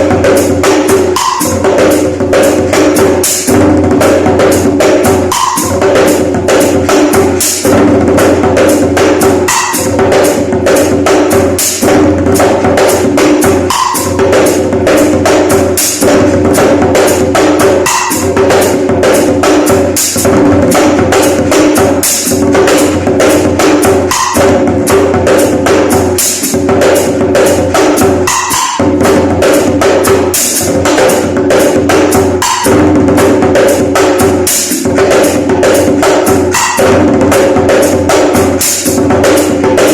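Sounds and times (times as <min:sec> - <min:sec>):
djembe played by hand: 0:00.0 - 0:39.9.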